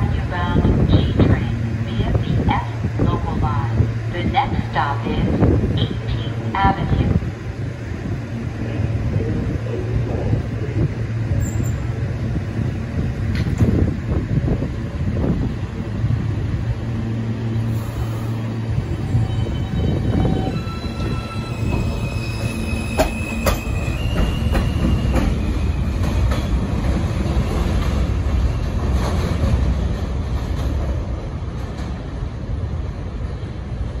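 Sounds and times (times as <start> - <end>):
subway train rumbling: 0.0 - 34.0.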